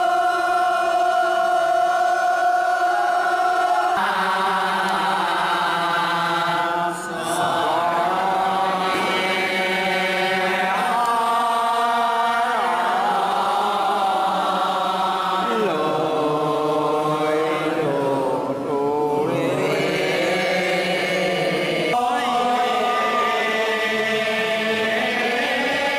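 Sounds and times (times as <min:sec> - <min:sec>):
men chanting a hymn: 0:00.0 - 0:25.9.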